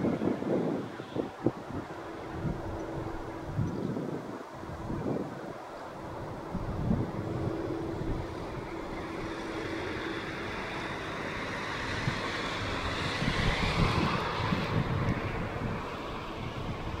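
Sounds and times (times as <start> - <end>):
helicopter turbine whine: 0.0 - 17.0
wind gusts on microphone: 0.0 - 17.0.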